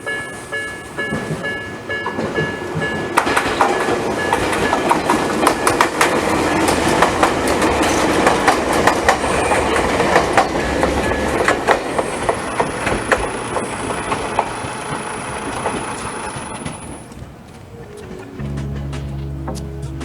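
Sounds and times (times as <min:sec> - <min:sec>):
electric train passing: 0:00.0 - 0:20.0
wheels clicking over rail joints: 0:00.0 - 0:20.0.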